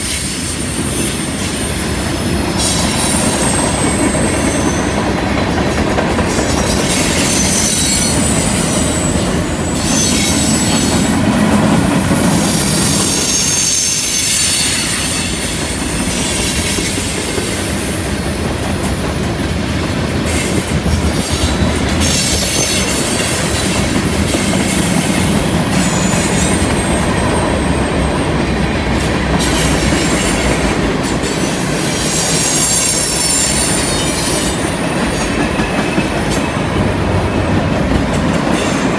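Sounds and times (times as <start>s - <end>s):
high wheel squeal: 0.0s - 5.1s, 6.3s - 17.2s, 20.3s - 28.2s, 29.4s - 37.6s
train wheels rumbling on rails: 0.0s - 38.9s.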